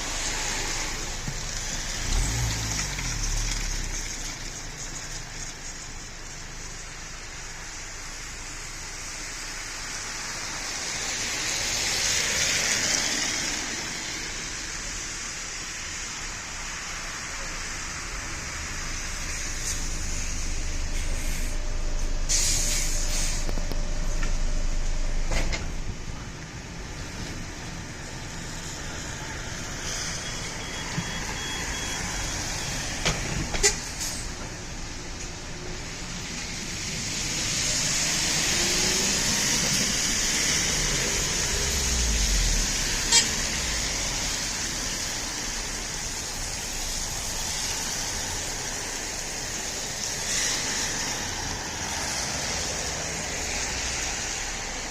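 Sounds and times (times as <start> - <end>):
road traffic passing: 0.0 - 54.9.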